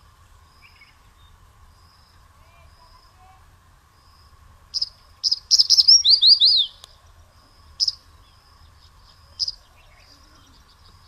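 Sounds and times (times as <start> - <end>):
faint insect drone: 0.0 - 11.0
songbird chirping: 0.0 - 11.0.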